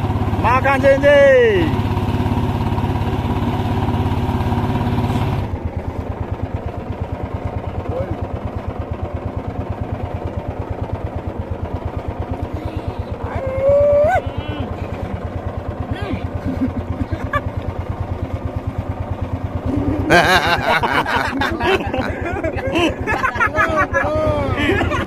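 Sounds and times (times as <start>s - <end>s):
small boat engine running: 0.0s - 25.0s.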